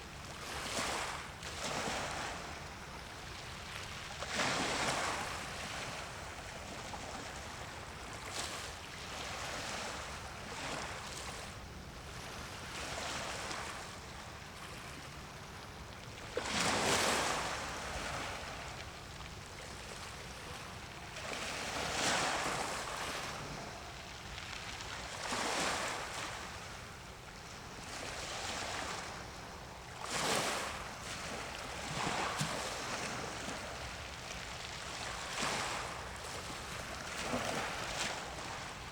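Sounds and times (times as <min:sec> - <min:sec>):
sea waves washing on shore: 0:00.0 - 0:38.9.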